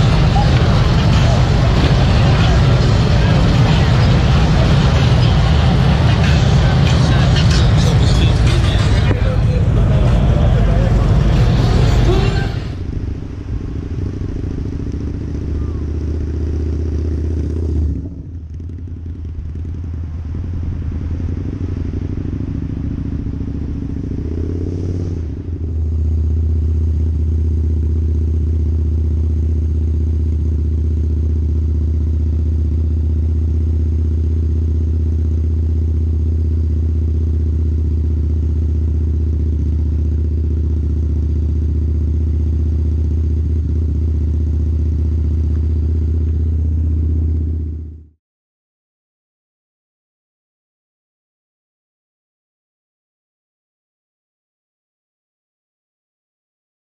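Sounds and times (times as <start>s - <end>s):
motorcycle engine: 0.0s - 48.2s.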